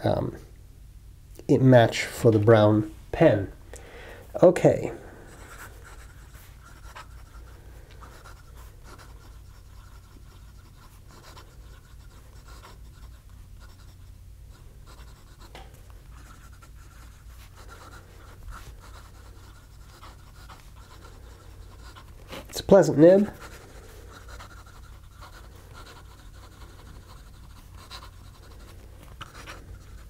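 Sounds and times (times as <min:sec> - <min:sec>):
steady low hum: 0:00.0 - 0:30.0
pen nib scratching on paper: 0:05.4 - 0:30.0.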